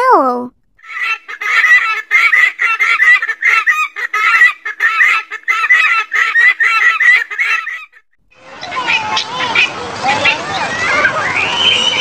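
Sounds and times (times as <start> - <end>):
guinea fowl cackling calls: 0.8 - 11.0.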